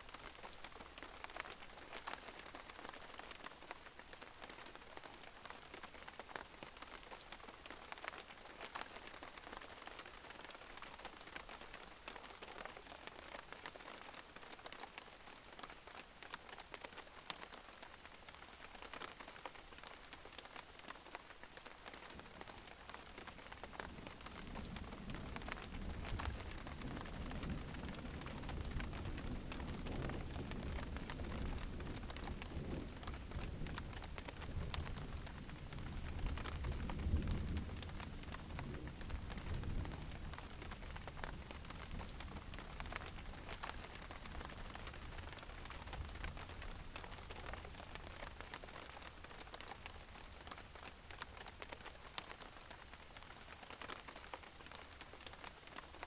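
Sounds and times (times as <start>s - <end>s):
rain drops pattering: 0.0s - 56.0s.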